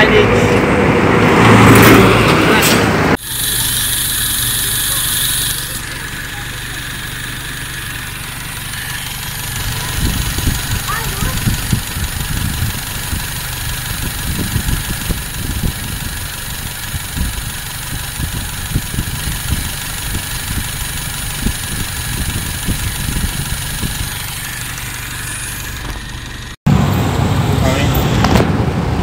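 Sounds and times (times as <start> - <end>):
engine idling: 3.1 - 28.4.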